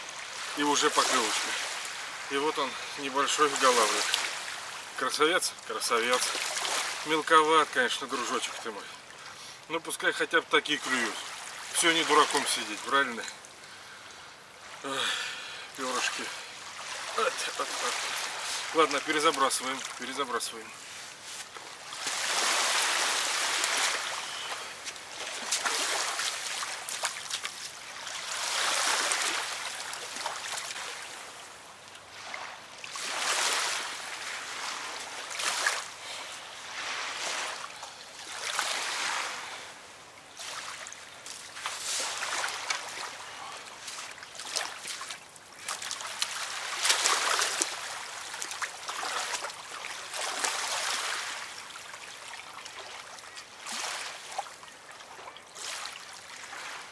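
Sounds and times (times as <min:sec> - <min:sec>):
small waves washing on riverbank: 0:00.0 - 0:56.9.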